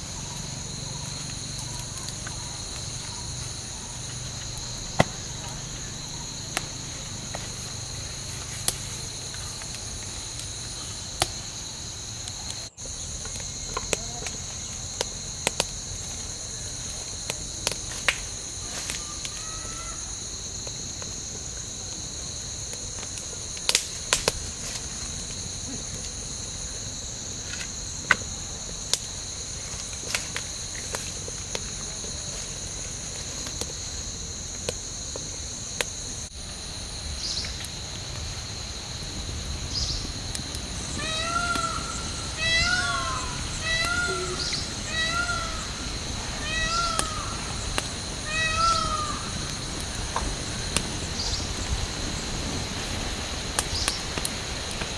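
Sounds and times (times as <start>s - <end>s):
wood fire popping and crackling: 0.0s - 42.7s, 43.4s - 54.9s
crickets chirping: 0.0s - 54.9s.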